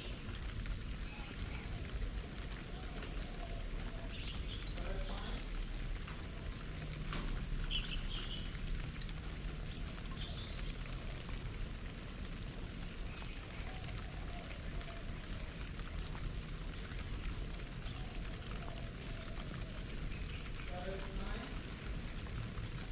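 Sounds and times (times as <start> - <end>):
water dripping and splashing: 0.0 - 22.9.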